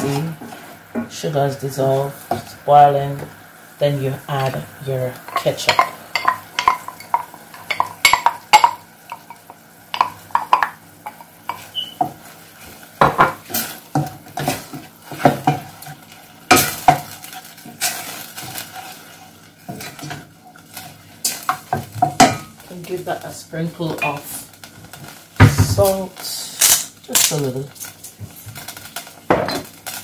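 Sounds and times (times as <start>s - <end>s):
sauce sizzling faintly: 0.0s - 30.0s.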